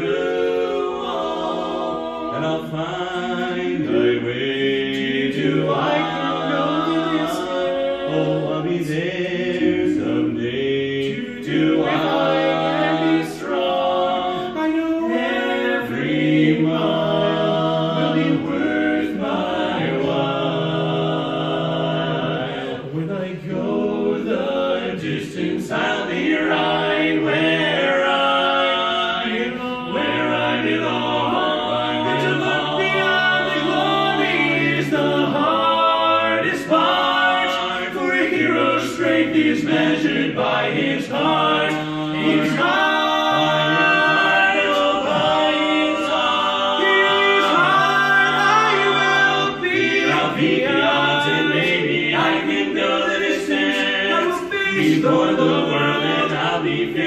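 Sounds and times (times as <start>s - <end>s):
male quartet singing in harmony: 0.0s - 57.0s.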